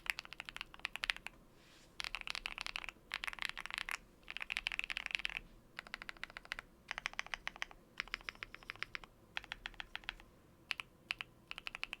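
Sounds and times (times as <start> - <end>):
mechanical keyboard typing: 0.0 - 1.3, 2.0 - 12.0.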